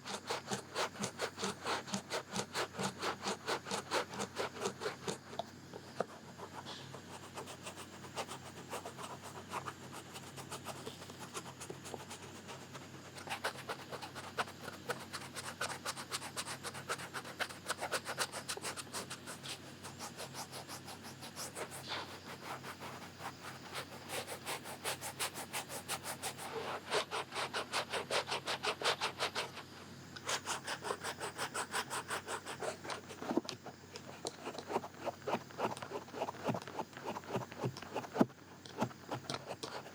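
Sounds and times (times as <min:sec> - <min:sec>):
close scratching strokes: 0:00.0 - 0:39.9.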